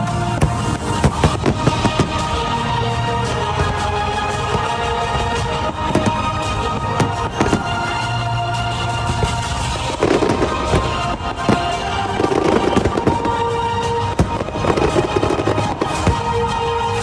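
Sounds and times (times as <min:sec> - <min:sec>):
fireworks bangs: 0:00.0 - 0:17.0
fireworks crackling: 0:00.0 - 0:17.0
music playing: 0:00.0 - 0:17.0.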